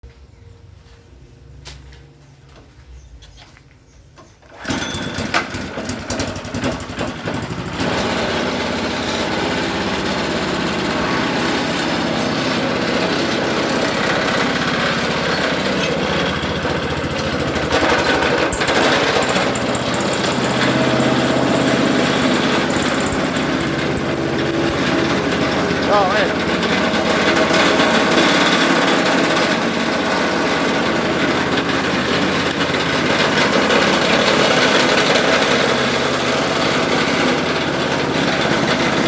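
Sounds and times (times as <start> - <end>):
chopper machine running: 4.5 - 39.0.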